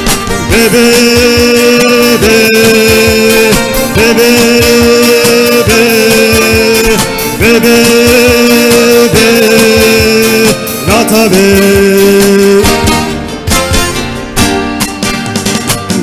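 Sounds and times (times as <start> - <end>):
acoustic guitars strumming: 0.0 - 16.0.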